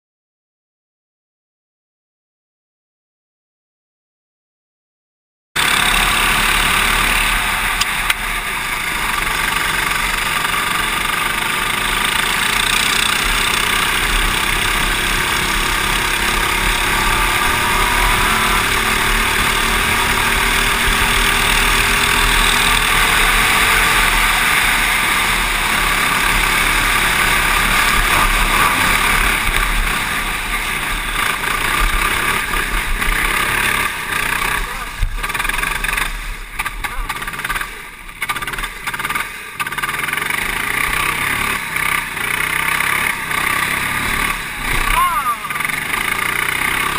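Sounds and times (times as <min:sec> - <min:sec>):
kart engine running hard: 0:05.6 - 0:46.9.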